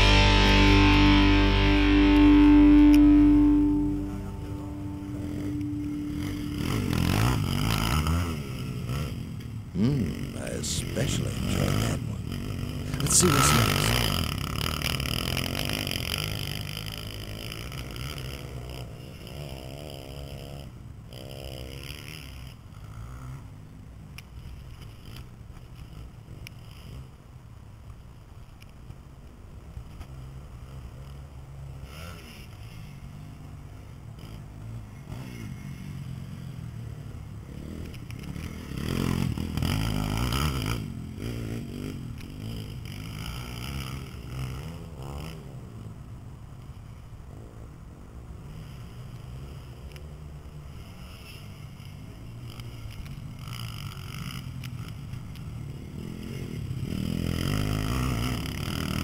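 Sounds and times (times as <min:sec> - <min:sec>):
pit bike engines: 0:00.0 - 0:59.0.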